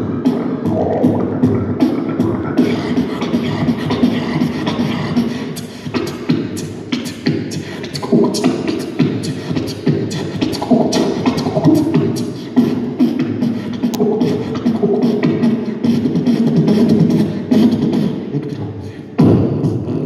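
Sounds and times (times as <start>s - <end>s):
beatboxing through microphone: 0.0s - 20.0s.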